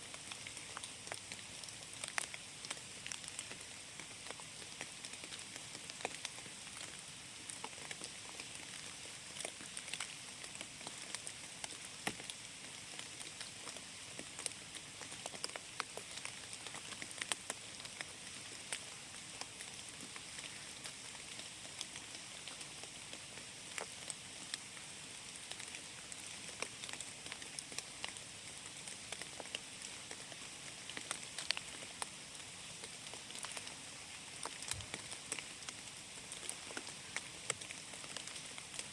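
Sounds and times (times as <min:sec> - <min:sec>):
raindrops dripping on leaves: 0:00.0 - 0:38.9.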